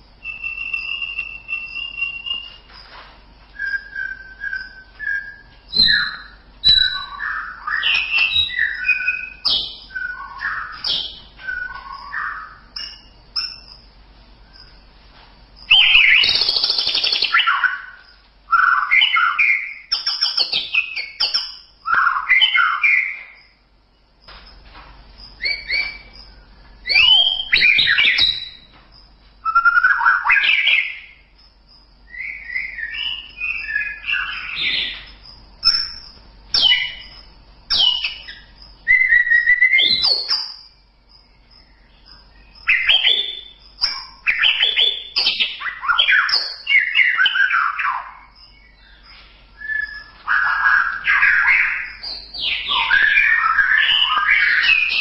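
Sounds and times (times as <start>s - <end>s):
songbird singing varied phrases: 0.2s - 2.7s, 3.6s - 14.8s, 15.6s - 24.0s, 25.3s - 28.8s, 29.4s - 31.4s, 32.0s - 55.0s.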